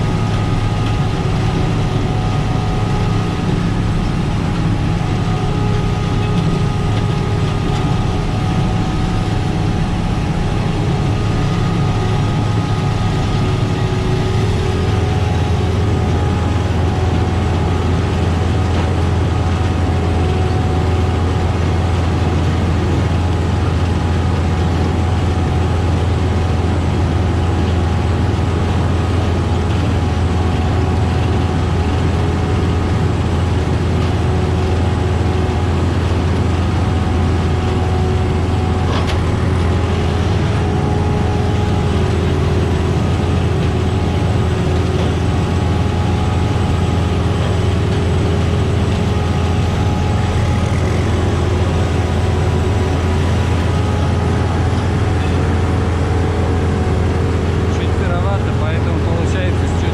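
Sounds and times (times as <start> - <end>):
diesel engine drone: 0.0 - 59.9
steady whine: 0.0 - 59.9.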